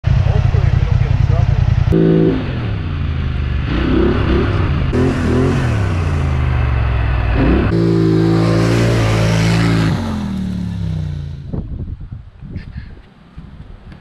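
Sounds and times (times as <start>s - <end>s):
atv engine revving: 0.1s - 11.6s.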